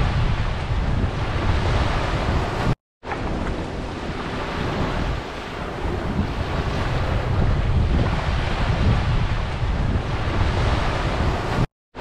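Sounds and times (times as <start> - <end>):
gentle waves on sandy beach: 0.0 - 11.7
wind rumbling on microphone: 0.0 - 12.0.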